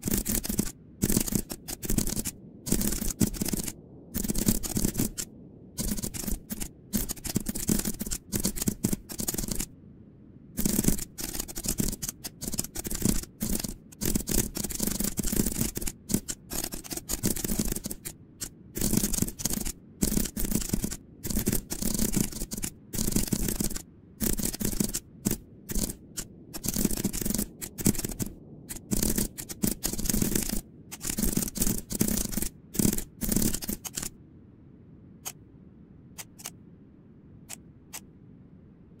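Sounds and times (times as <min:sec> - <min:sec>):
computer keyboard typing: 0:00.0 - 0:09.7, 0:10.6 - 0:34.1, 0:36.2 - 0:36.6.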